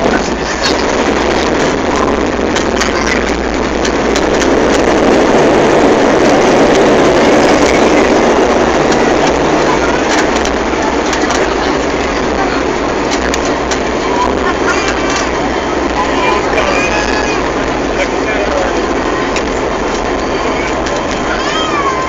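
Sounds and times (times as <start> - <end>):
low rumble: 0.0 - 22.0
turboprop engine drone in cabin: 0.0 - 22.0.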